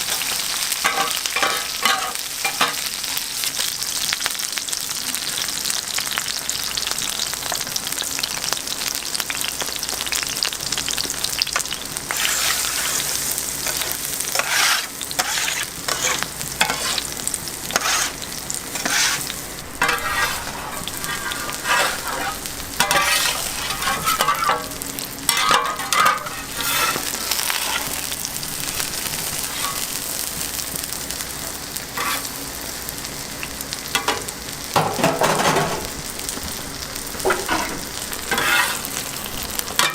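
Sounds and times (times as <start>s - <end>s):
pancake sizzling in oil: 0.0s - 39.9s.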